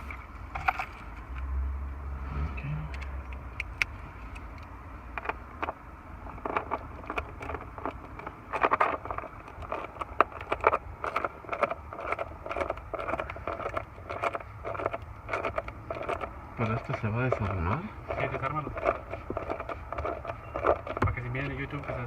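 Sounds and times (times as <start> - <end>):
electrical parts clicking and rattling: 2.9 - 22.0.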